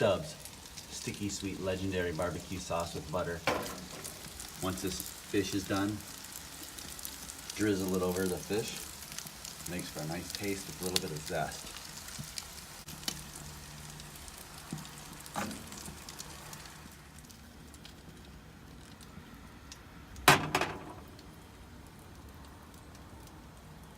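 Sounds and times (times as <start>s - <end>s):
fish sizzling in a pan: 0.0s - 19.2s.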